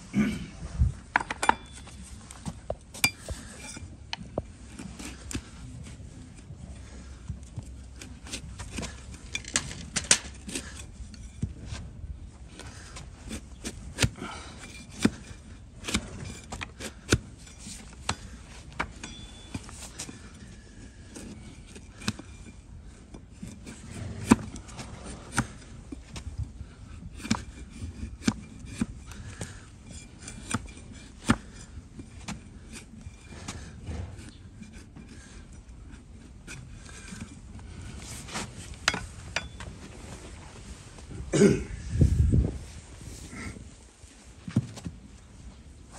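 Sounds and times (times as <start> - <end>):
knife scraping hoof: 1.6 - 40.8.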